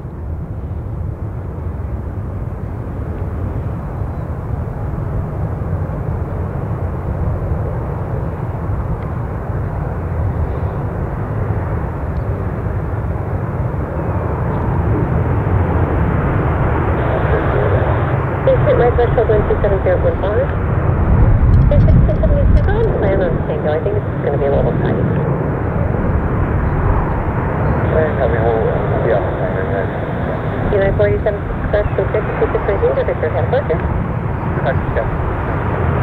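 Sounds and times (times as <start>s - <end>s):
distant jet engines rushing: 0.0s - 36.0s.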